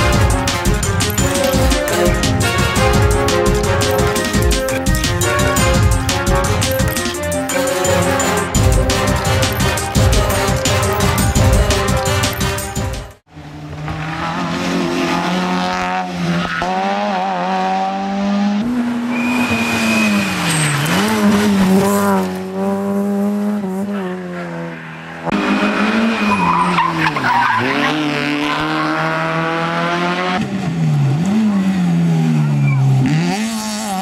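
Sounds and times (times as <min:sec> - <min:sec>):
rally car engines revving high: 0:00.0 - 0:34.0.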